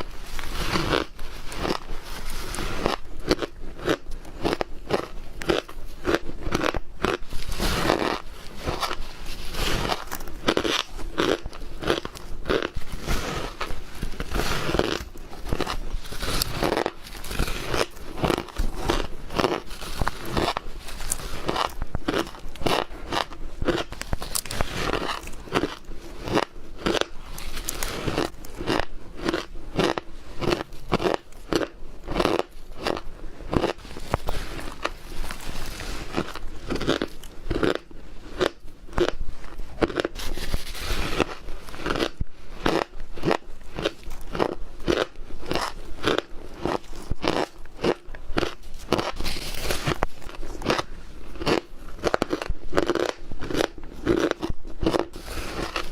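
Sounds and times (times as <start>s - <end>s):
chewing and crunching ice: 0.0s - 55.9s.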